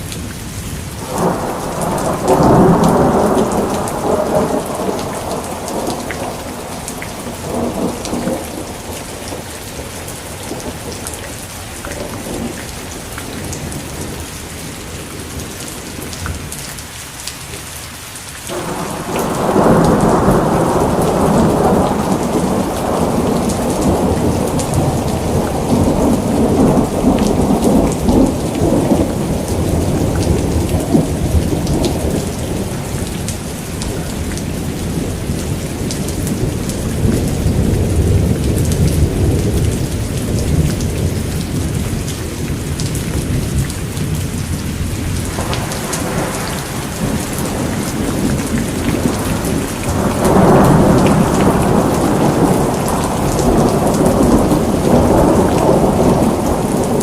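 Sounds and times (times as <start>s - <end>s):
steady rain falling: 0.0s - 57.0s
rolling thunder: 1.0s - 15.5s, 18.5s - 57.0s.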